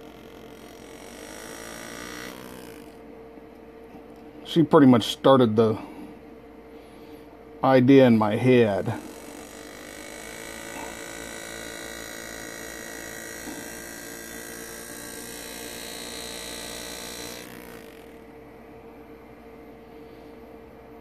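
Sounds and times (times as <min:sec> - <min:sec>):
engraving tool buzzing on metal: 0:00.0 - 0:04.2, 0:06.8 - 0:20.2
faint hum: 0:00.0 - 0:21.0.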